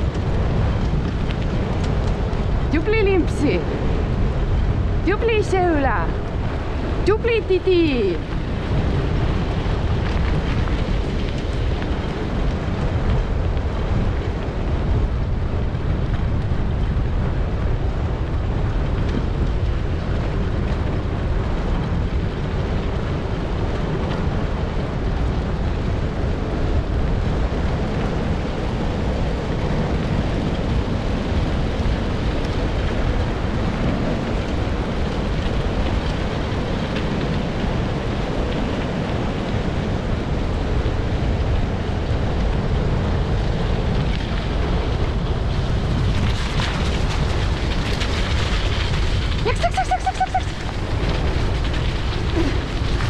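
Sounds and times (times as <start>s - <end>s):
wind noise on microphone: 0.0s - 53.0s
wheeled rig rolling on dirt: 7.9s - 53.0s.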